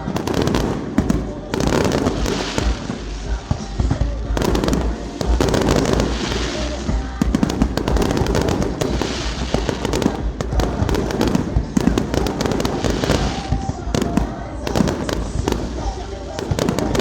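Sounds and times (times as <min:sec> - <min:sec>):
fireworks crackling and popping: 0:00.0 - 0:17.0
music: 0:00.0 - 0:17.0.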